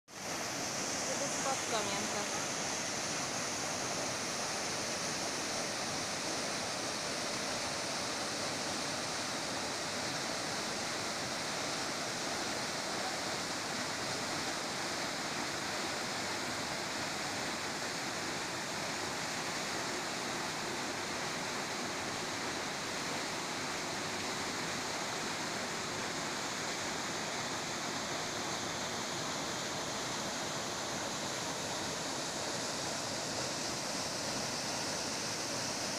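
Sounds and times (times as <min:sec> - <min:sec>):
waterfall rushing into a pool: 0:00.1 - 0:35.9.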